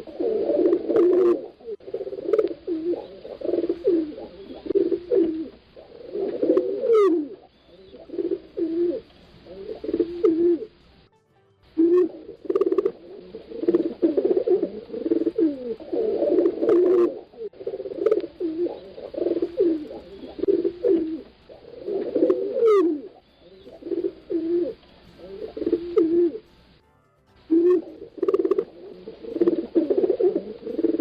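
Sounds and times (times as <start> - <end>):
pigeons cooing: 0.0 - 10.8, 11.8 - 26.7, 27.5 - 31.0
thin rising chirp: 0.8 - 11.1, 11.8 - 26.8.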